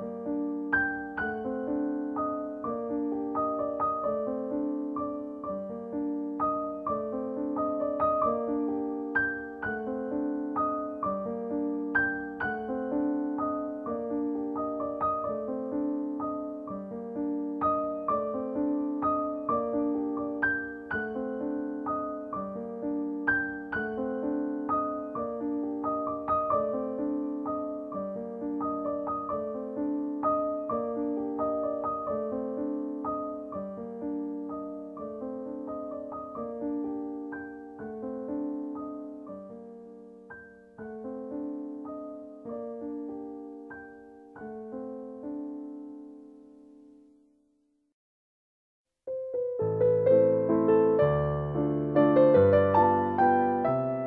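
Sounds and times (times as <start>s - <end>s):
gentle piano music: 0.0s - 47.5s, 49.1s - 54.0s.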